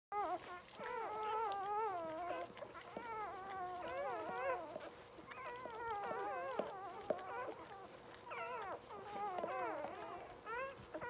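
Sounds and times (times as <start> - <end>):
puppies crying: 0.1 - 11.0.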